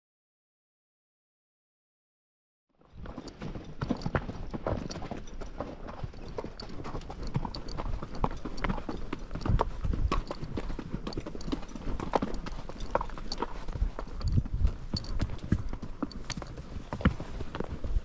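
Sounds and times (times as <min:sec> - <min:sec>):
horse hooves clip-clopping: 0:02.8 - 0:18.0.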